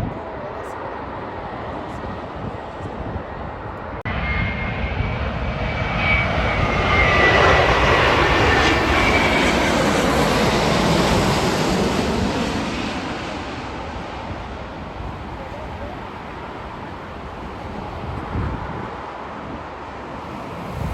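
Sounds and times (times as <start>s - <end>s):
jet engines passing with whine: 0.0s - 20.9s.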